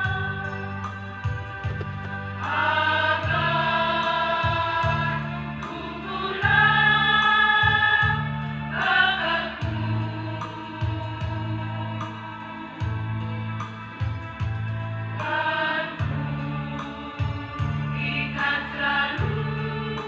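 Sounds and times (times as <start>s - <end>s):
choir singing held chords: 0.0s - 13.7s, 15.2s - 20.0s.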